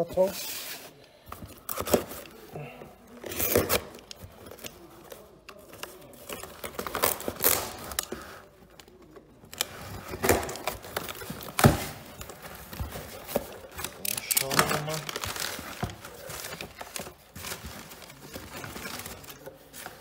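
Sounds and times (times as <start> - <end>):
cardboard rustling and scraping: 3.1 - 20.0.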